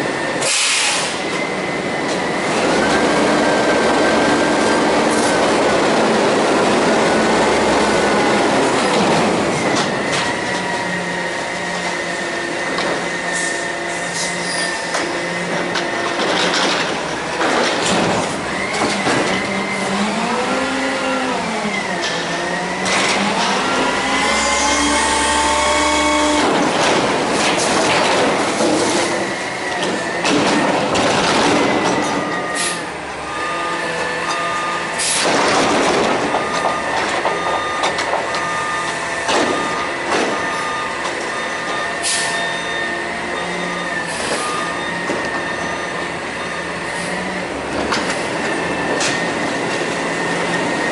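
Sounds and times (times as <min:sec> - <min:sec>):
truck engine and hydraulic pump whine: 0:00.0 - 0:50.9.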